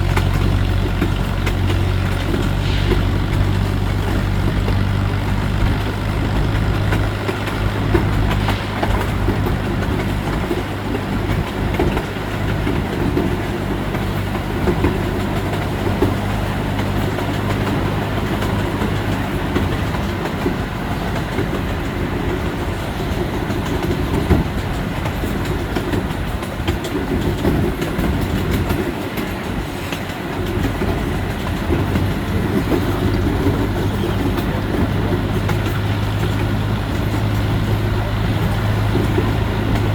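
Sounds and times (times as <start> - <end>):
miniature train rumbling: 0.0 - 39.9
wheels clicking over rail joints: 0.0 - 39.9.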